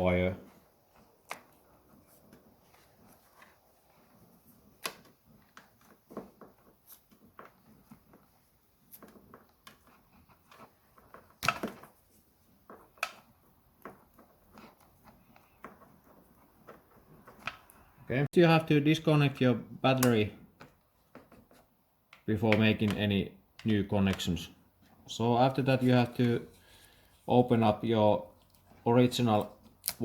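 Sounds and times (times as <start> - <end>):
hands handling wire and tools: 0.5 - 18.0, 19.8 - 30.0.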